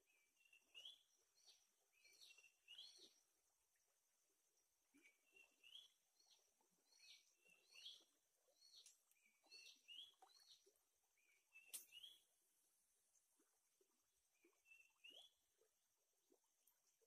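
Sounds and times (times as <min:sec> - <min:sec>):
faint bird song: 0:00.0 - 0:17.0.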